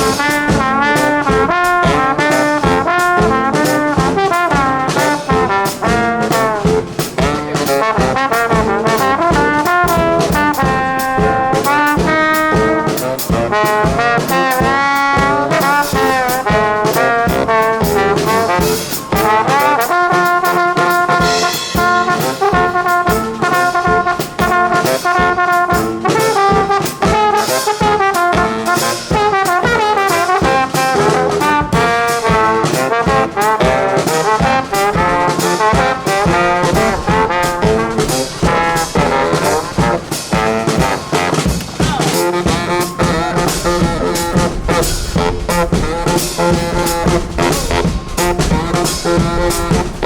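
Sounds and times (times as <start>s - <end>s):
drum beat: 0.0s - 50.0s
trombones and trumpets: 0.0s - 50.0s.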